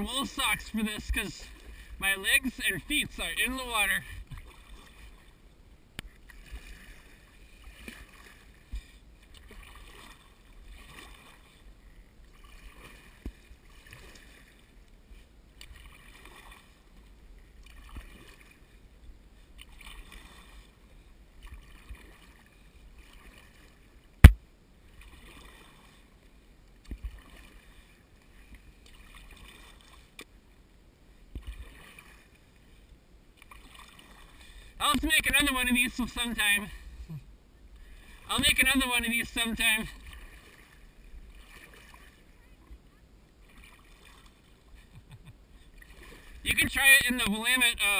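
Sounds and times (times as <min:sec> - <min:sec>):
paddle strokes splashing in water: 0:00.0 - 0:05.4, 0:06.1 - 0:30.4, 0:31.3 - 0:36.6, 0:37.8 - 0:42.8, 0:43.4 - 0:47.9.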